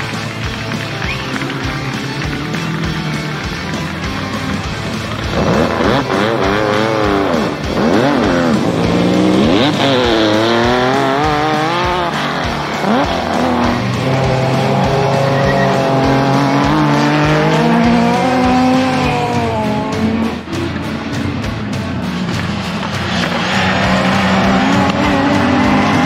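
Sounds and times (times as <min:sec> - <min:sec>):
background music with steady beat: 0:00.0 - 0:26.0
race car engines revving: 0:00.0 - 0:26.0.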